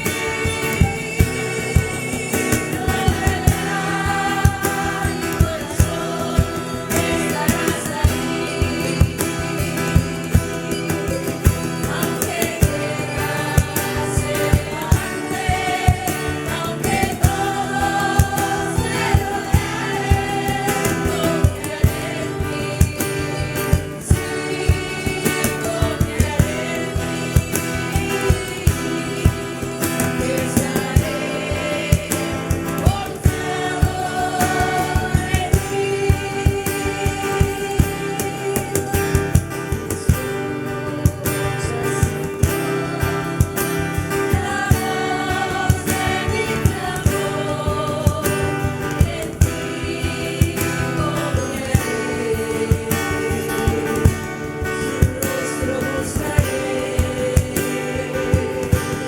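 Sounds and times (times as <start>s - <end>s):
group singing worship song: 0.0s - 59.0s.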